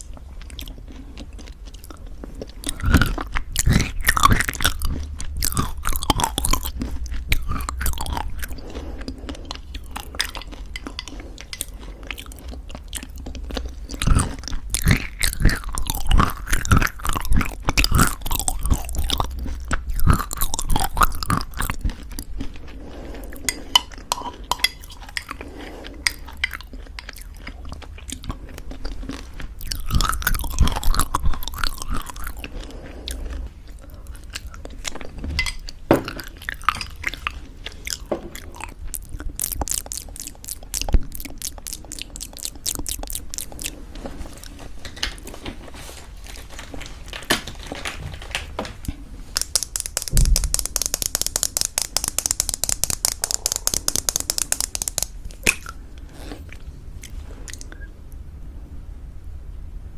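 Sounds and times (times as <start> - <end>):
wet sticky mouth sounds: 0.0 - 34.8, 36.2 - 43.8, 49.3 - 57.9
crunchy chewing: 0.0 - 45.4, 48.8 - 57.9.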